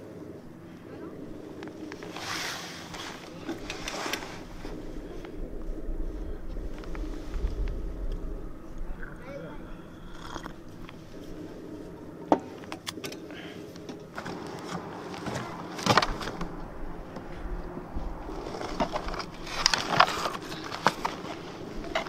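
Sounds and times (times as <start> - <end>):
low background noise: 0.0 - 22.0.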